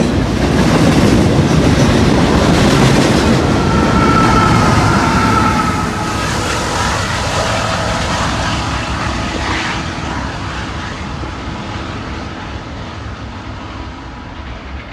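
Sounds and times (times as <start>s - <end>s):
freight train rumbling past: 0.0s - 14.9s.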